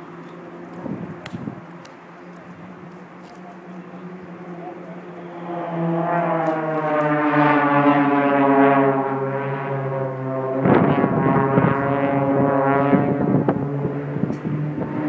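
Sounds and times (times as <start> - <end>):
aircraft engine drone: 0.0 - 15.0
rough crackling rumble: 0.0 - 15.0.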